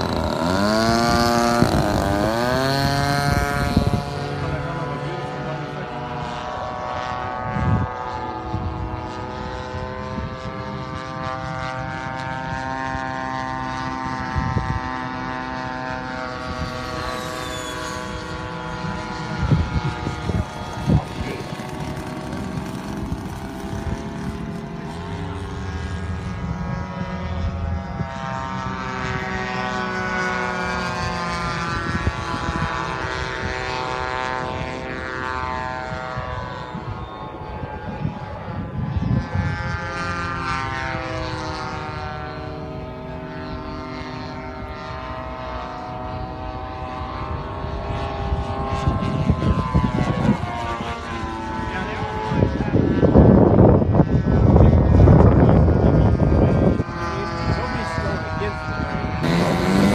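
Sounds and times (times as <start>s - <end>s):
model airplane motor buzzing: 0.0s - 59.9s.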